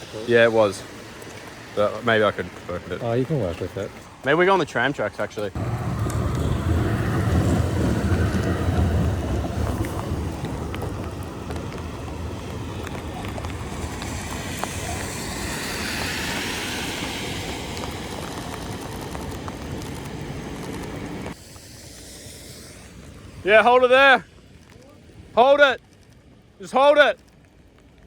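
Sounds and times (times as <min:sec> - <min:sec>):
vehicle rumble: 0:00.0 - 0:25.4
rain and tyres hissing on wet road: 0:00.0 - 0:28.0.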